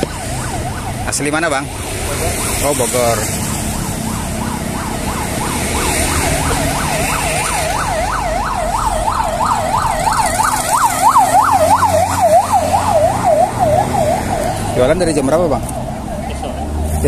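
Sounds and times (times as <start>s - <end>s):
electronic siren yelping: 0.0s - 16.9s.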